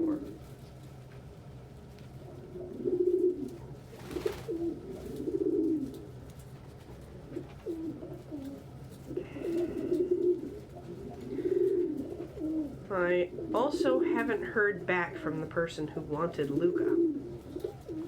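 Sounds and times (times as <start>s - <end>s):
pigeons cooing: 0.0s - 0.5s, 2.2s - 18.0s.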